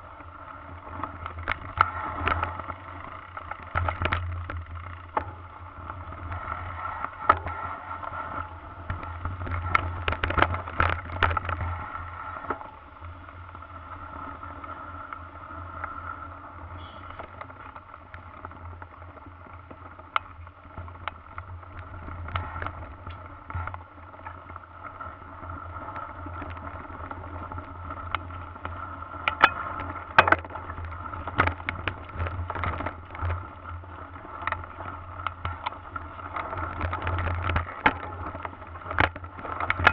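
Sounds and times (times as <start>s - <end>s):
bike rattling over bumps: 0.0s - 39.9s
bike tyres and wind rumble: 0.0s - 39.9s.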